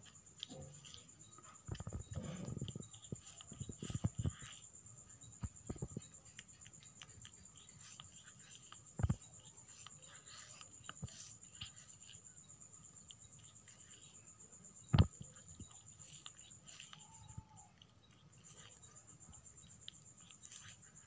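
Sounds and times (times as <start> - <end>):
cat licking fur: 0.0 - 21.0.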